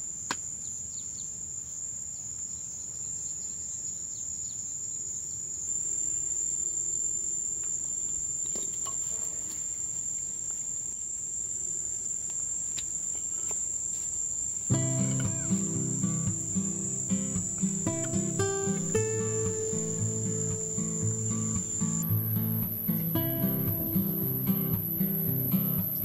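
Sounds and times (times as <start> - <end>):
insects droning: 2.6 - 26.0.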